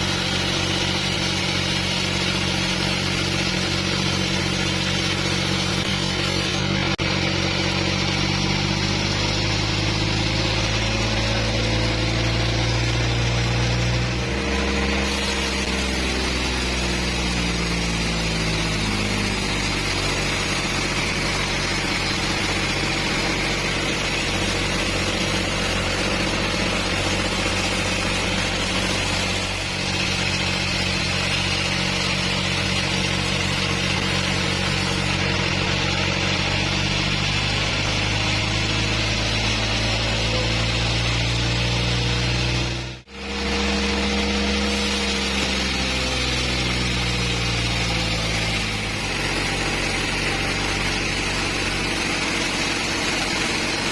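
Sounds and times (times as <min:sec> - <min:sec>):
bandsaw mill engine sawing log: 0:00.0 - 0:53.9.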